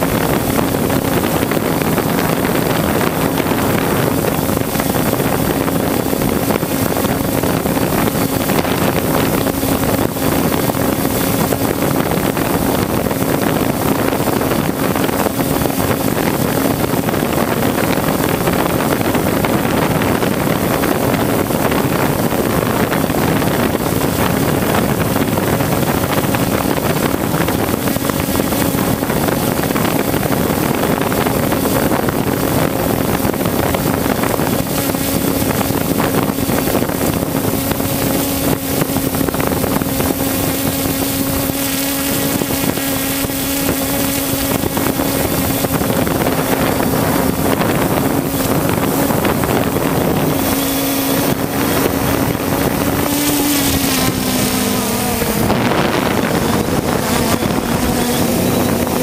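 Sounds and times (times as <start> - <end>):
drone propellers humming: 0.0 - 59.0
wind on the microphone: 0.0 - 59.0.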